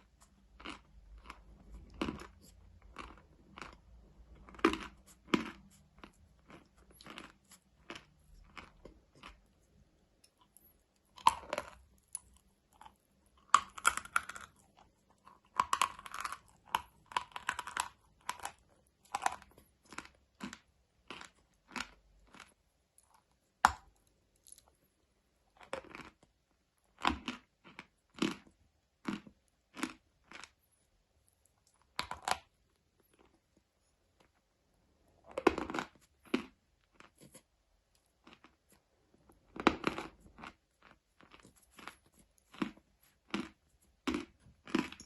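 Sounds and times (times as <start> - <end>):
crunching of chewed mineral lumps: 0.0 - 45.0.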